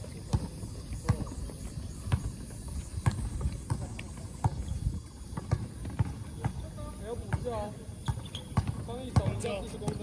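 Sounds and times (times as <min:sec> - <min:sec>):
basketball bouncing on a court: 0:00.2 - 0:10.0.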